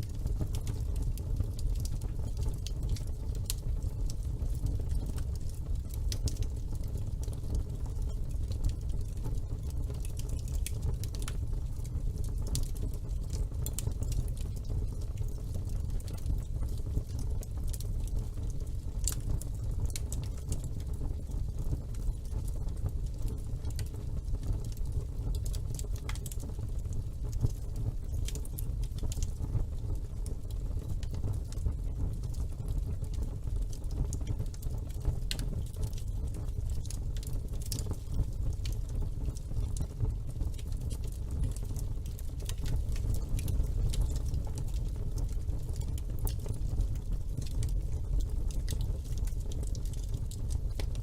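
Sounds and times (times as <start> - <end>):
fire crackles and pops: 0.0 - 51.0
low rumble of flames: 0.0 - 51.0.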